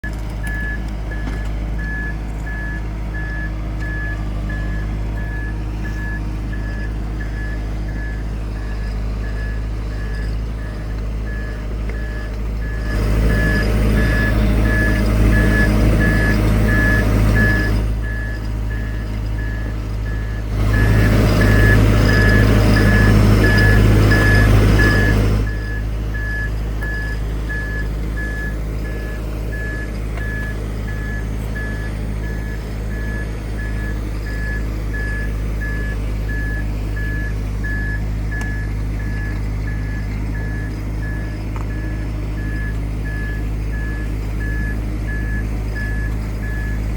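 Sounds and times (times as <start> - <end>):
drilling rig engine hum: 0.0 - 46.9
warning alarm beeping: 0.4 - 46.9.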